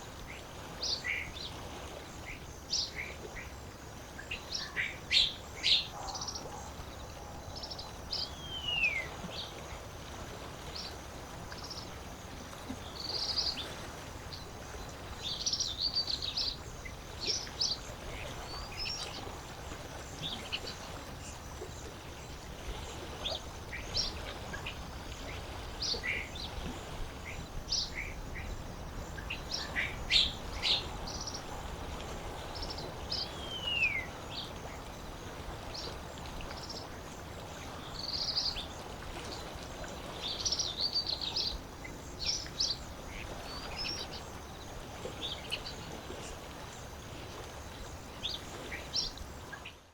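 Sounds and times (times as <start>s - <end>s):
soft hiss of lakeside water: 0.0s - 49.9s
wild birds chirping: 0.3s - 12.1s, 12.8s - 49.8s.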